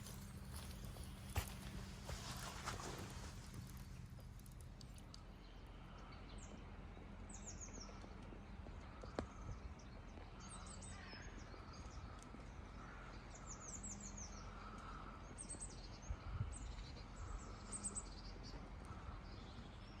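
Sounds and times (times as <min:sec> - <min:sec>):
small birds chirping faintly: 0:00.0 - 0:20.0.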